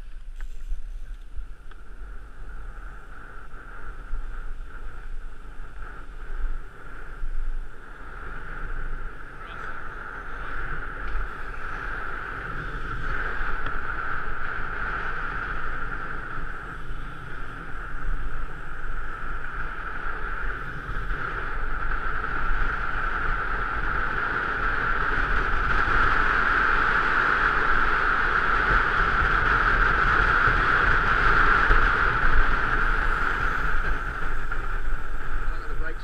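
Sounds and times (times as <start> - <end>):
bike rolling on road hum: 0.0 - 36.0
wind rushing over microphone: 0.0 - 36.0.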